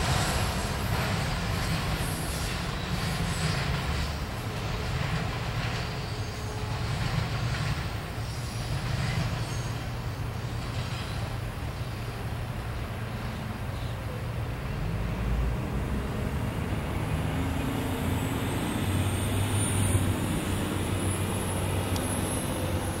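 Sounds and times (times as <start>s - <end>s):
freight train cars rumbling past: 0.0s - 23.0s.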